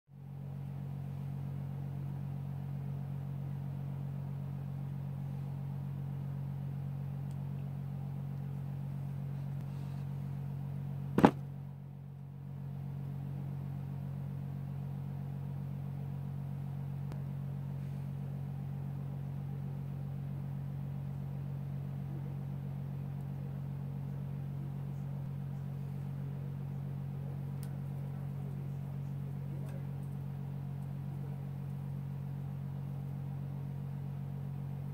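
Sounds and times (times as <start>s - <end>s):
steady low hum: 0.2s - 34.9s.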